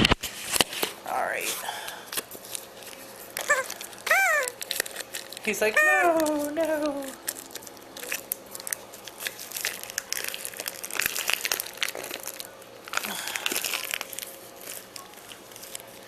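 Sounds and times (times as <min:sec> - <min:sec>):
plastic bag crinkling: 0:02.0 - 0:16.0.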